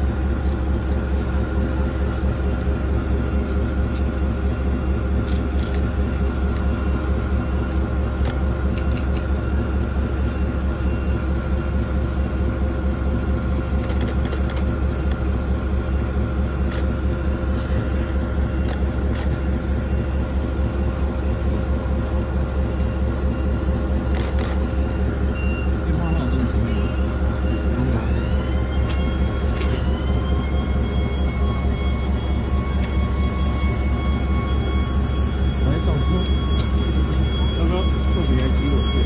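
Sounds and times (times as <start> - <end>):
diesel locomotive engine running: 0.0 - 39.0.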